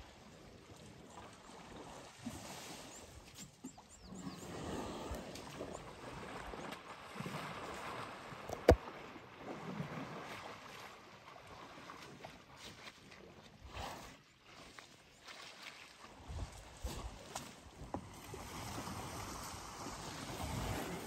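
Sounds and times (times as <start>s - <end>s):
water sloshing and splashing: 0.1s - 21.0s.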